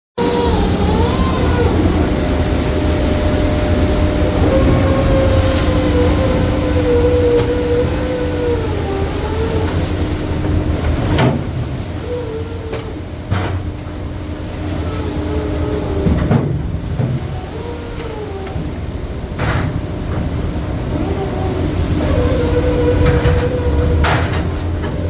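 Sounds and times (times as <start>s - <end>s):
boat machinery rumble and whine: 0.2s - 25.0s.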